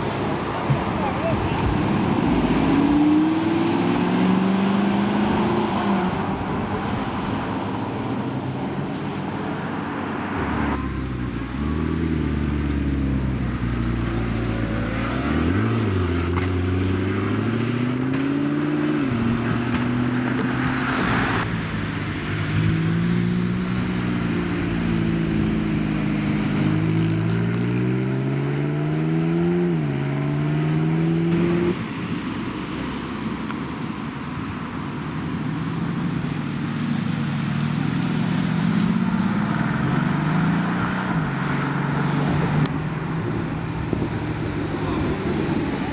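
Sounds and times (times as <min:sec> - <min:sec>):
car engine accelerating hard: 0:00.0 - 0:45.9.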